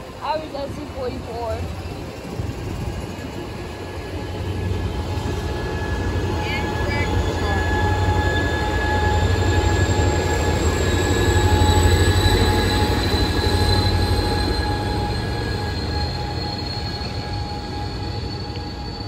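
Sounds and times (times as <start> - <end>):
locomotive engine drone: 0.0 - 19.0
high-pitched whines: 0.5 - 19.0.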